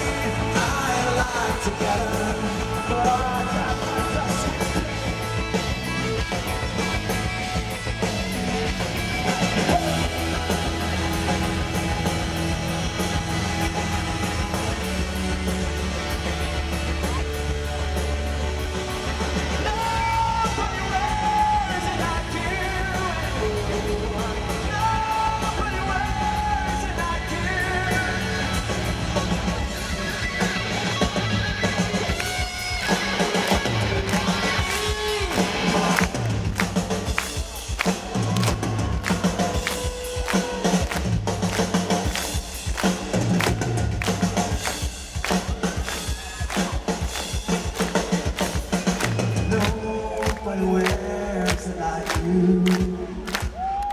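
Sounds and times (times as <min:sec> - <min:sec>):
bass: 0:00.0 - 0:53.9
drums: 0:00.0 - 0:53.9
electric guitar: 0:00.0 - 0:53.9
rock band playing live: 0:00.0 - 0:53.9.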